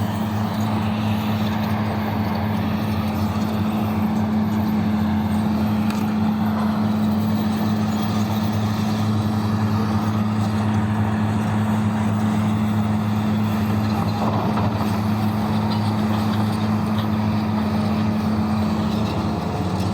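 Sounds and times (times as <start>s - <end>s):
diesel engine droning: 0.0s - 19.9s.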